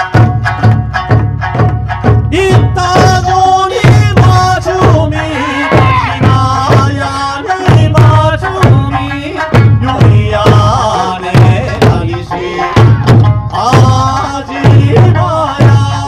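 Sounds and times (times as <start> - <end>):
barrel drums struck with sticks: 0.0 - 16.0
folk song singing: 0.0 - 16.0.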